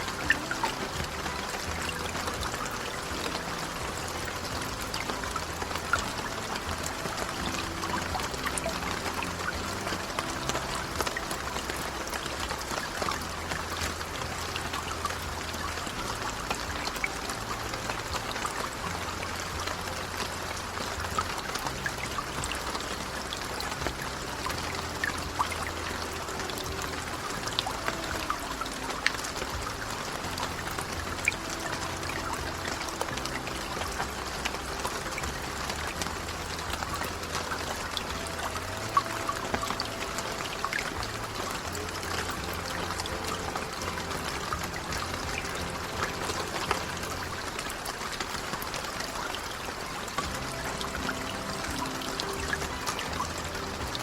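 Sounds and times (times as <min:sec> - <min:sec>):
steady rain falling: 0:00.0 - 0:54.0
trickling water: 0:00.0 - 0:54.0.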